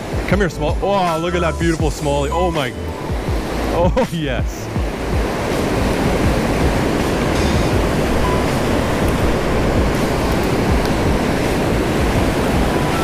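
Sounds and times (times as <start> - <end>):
water rushing through spillway: 0.0 - 13.0.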